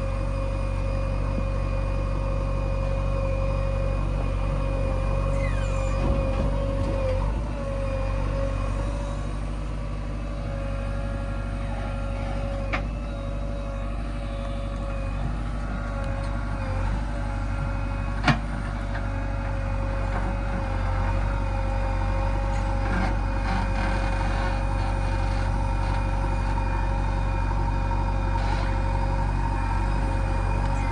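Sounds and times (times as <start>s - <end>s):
diesel machinery rumbling: 0.0s - 30.9s.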